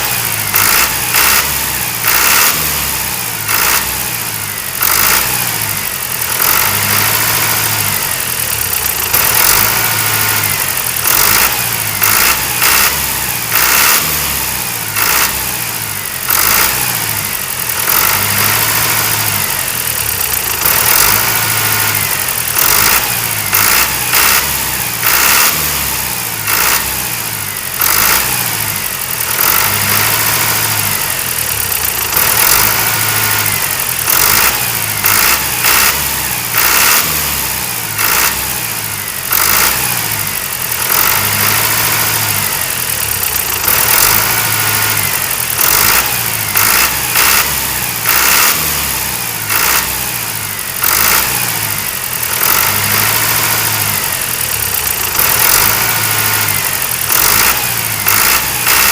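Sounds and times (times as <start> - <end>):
engine running with low pulsing note: 0.0 - 58.9.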